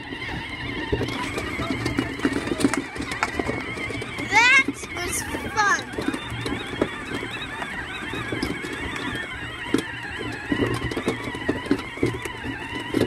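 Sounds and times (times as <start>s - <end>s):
electric motors whining: 0.0s - 13.0s
wheels knocking on rough ground: 0.0s - 13.0s.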